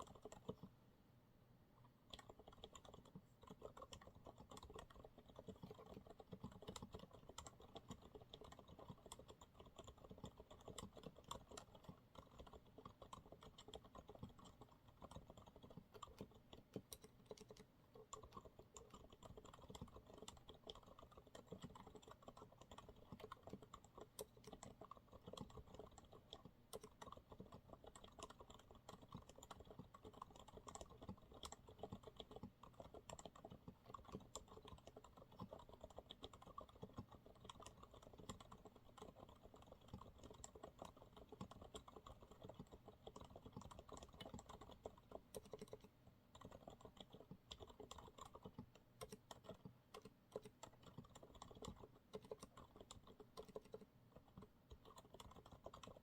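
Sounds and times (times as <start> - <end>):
quiet keyboard typing: 0.0 - 0.8, 1.8 - 56.0.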